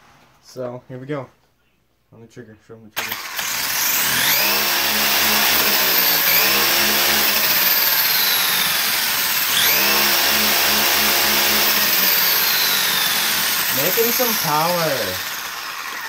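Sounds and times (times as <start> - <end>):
rc truck electric motor whining: 3.0 - 16.0.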